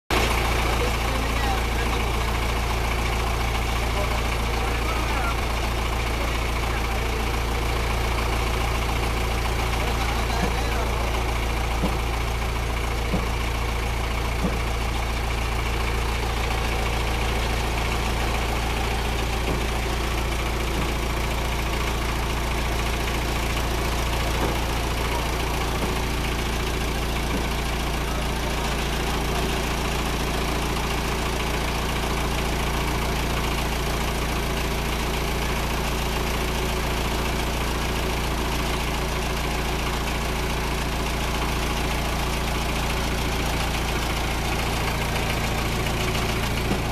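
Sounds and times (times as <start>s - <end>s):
drilling machine engine running: 0.1s - 46.9s.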